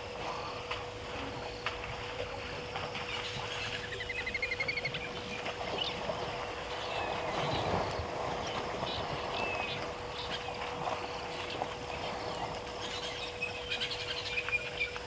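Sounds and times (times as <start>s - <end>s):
elephants splashing in water: 0.0s - 14.4s
faint steady hum: 0.0s - 15.0s.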